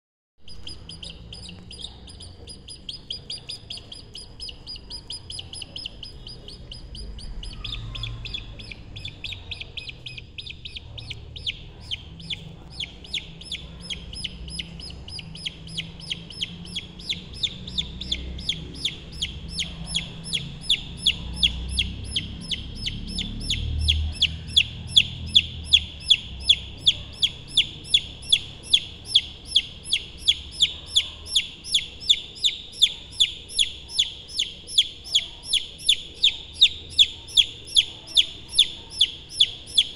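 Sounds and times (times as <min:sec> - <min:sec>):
baby chick peeping: 0:00.4 - 0:39.9.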